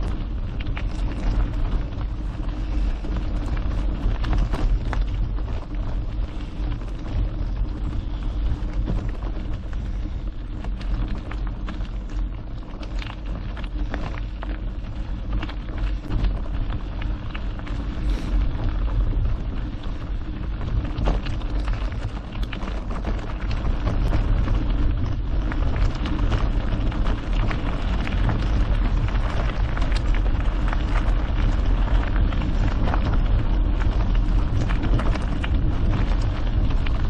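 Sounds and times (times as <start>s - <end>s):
bike clicks and rattles: 0.0s - 37.0s
bike tyres crackling over gravel: 0.0s - 37.0s
wind rumble on microphone: 0.0s - 37.0s.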